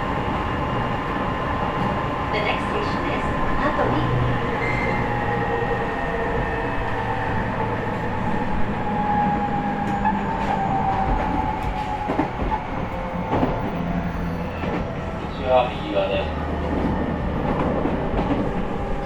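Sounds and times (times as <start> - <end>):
wheel and rail rumble: 0.0 - 19.0.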